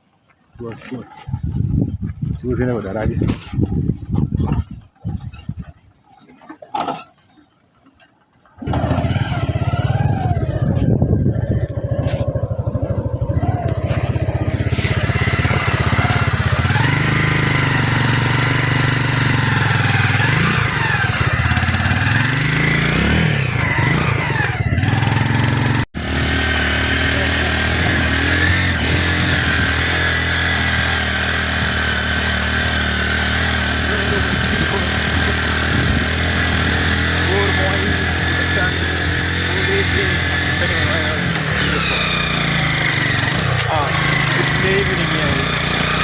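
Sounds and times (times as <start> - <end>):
rushing wind: 1.2 - 5.9, 8.7 - 46.0
motorcycle engine revving: 8.6 - 46.0.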